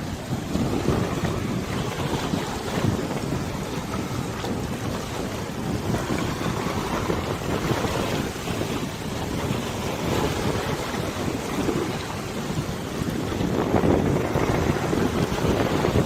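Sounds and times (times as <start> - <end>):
river water washing: 0.0 - 16.0
wind rushing over microphone: 0.0 - 16.0.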